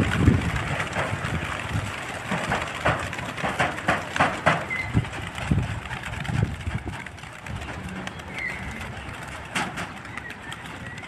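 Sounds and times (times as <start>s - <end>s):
pigeon wing claps: 0.0s - 11.0s
pigeons fluttering: 0.0s - 11.0s.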